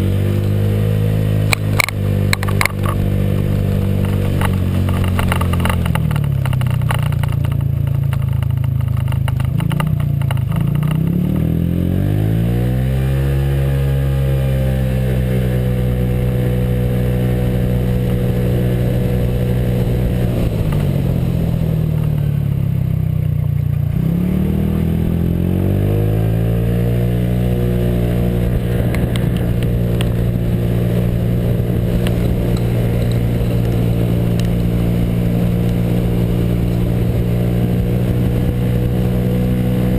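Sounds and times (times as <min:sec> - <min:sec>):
scooter engine pulling: 0:00.0 - 0:12.5, 0:13.3 - 0:39.9.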